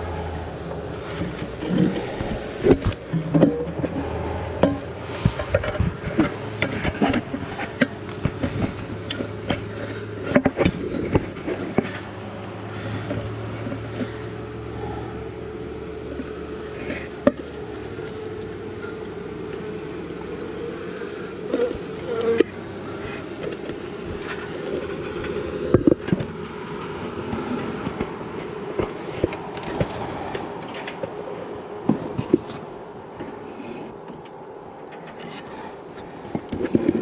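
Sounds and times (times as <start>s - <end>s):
bees buzzing: 0.0s - 33.2s.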